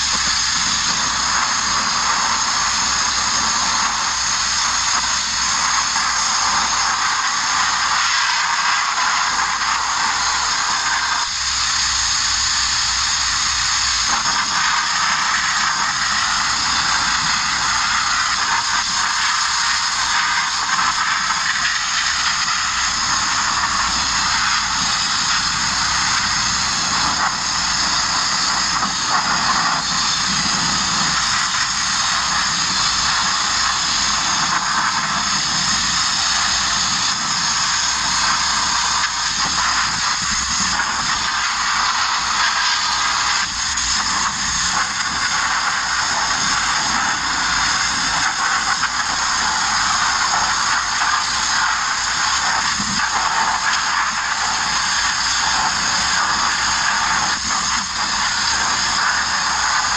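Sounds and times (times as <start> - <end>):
media blaster hissing: 0.0 - 59.9.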